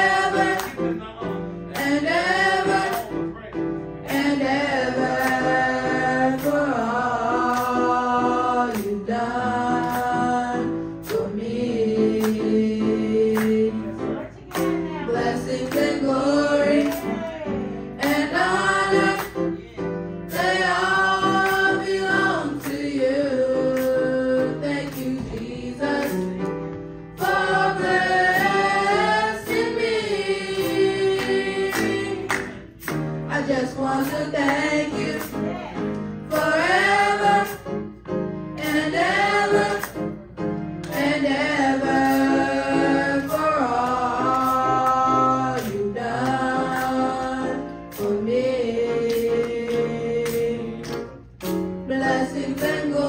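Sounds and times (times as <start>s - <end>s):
choir singing through microphones: 0.0s - 53.0s.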